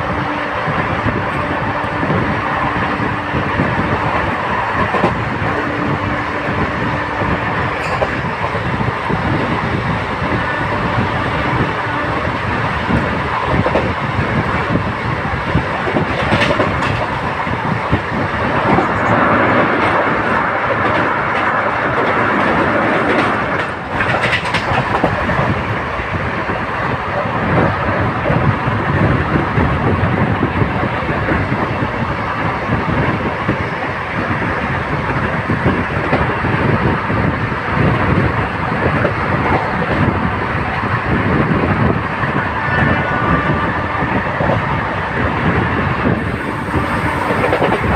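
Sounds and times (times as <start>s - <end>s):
rail joints clickety-clack: 0.0s - 47.9s
train wheels rumbling on rails: 0.0s - 47.9s.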